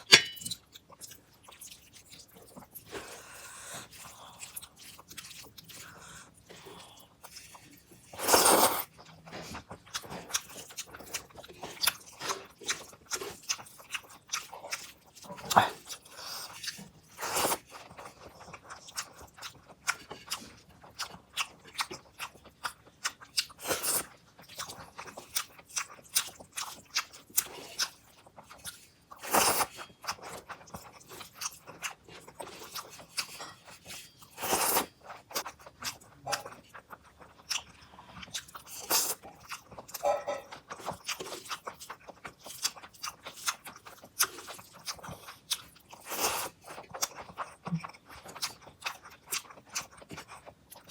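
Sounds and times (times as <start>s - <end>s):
person chewing: 0.0s - 50.9s.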